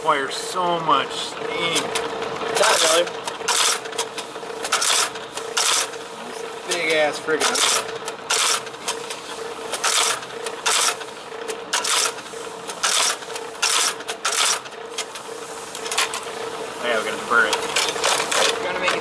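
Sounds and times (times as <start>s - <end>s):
machine motor hum: 0.5s - 19.0s.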